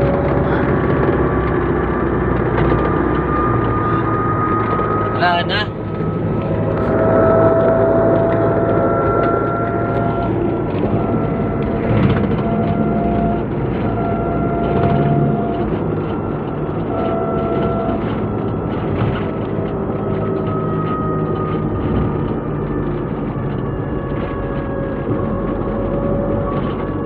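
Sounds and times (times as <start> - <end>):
engine and road rumble: 0.0 - 27.0
thin whine: 0.0 - 27.0.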